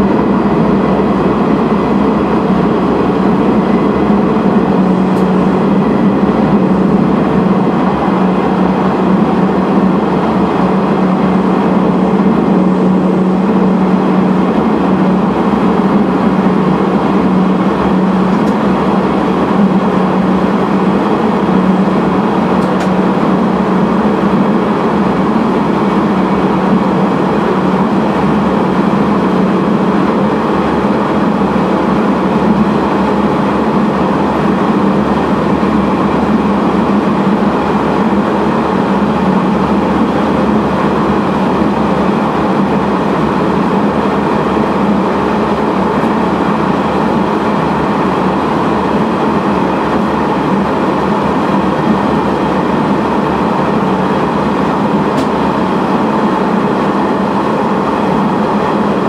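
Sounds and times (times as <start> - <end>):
diesel engine drone: 0.0 - 59.0
train wheels on rails: 0.0 - 59.0.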